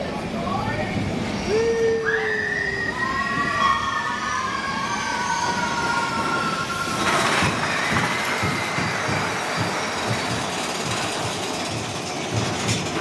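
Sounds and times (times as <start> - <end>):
train rumbling on track: 0.0 - 13.0
roller coaster wheels squealing: 1.2 - 13.0.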